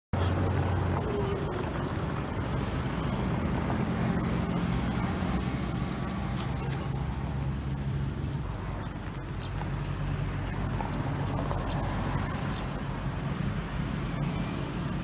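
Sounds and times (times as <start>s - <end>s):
engine running steadily: 0.2s - 15.0s.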